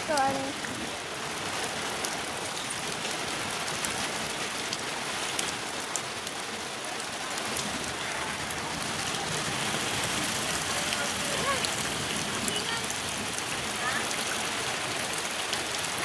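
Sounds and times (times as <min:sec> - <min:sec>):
rain on wet concrete: 0:00.0 - 0:16.0.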